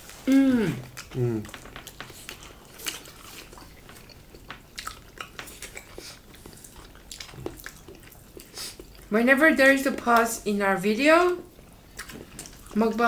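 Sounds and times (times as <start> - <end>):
people chewing and lip smacking: 0.0 - 9.1, 11.5 - 13.0.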